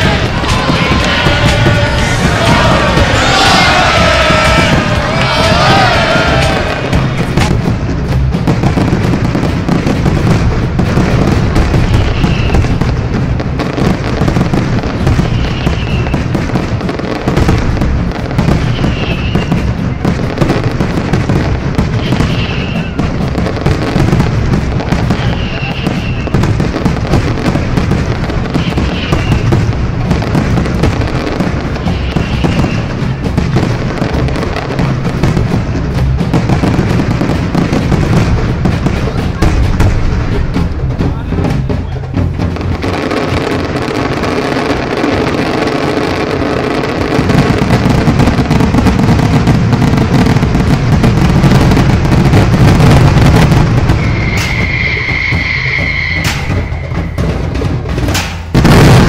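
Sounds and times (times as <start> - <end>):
dense crackling noise: 0.0 - 59.0
loud background music: 0.0 - 59.0.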